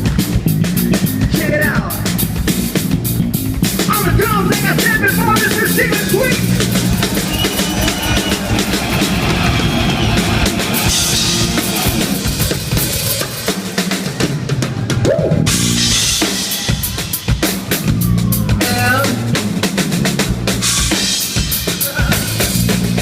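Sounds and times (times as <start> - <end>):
rock drum solo: 0.0 - 23.0.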